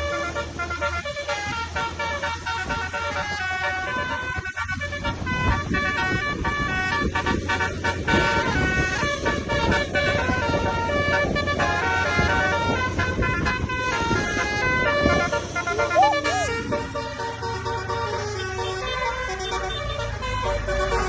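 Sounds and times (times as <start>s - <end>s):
multi-tone bus horn melody: 0.0s - 21.0s.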